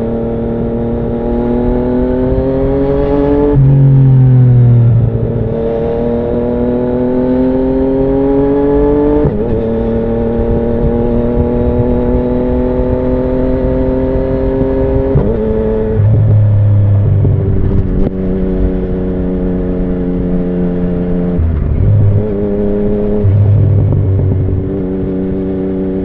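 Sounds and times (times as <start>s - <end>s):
motorcycle engine under way: 0.0s - 26.0s.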